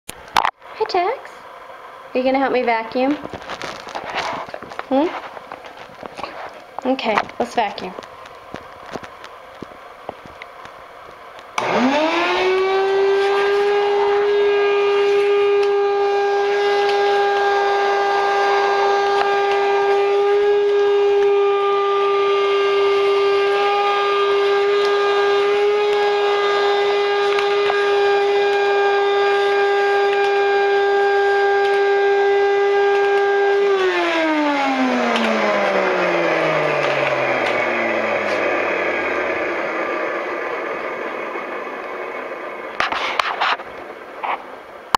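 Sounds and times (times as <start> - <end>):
vacuum cleaner motor whine: 0.3 - 44.9.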